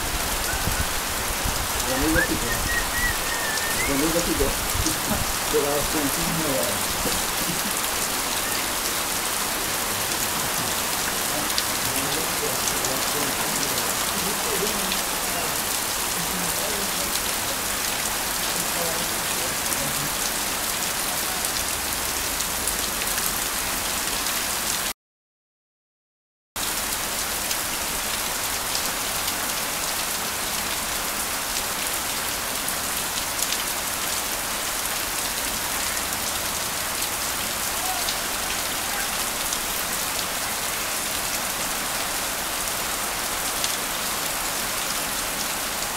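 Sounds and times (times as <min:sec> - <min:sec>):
heavy rain falling: 0:00.0 - 0:24.9, 0:26.6 - 0:45.9.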